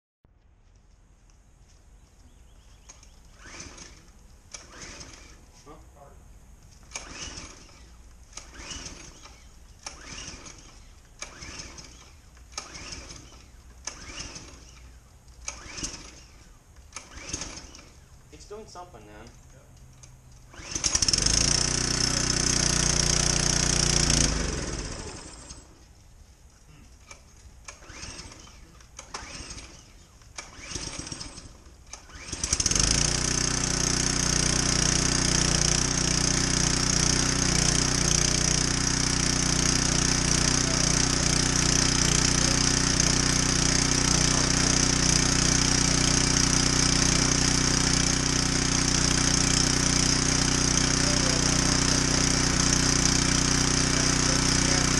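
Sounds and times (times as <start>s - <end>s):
pressure washer engine running: 3.3s - 5.8s, 6.9s - 14.8s, 15.4s - 19.2s, 20.4s - 25.8s, 27.7s - 54.9s.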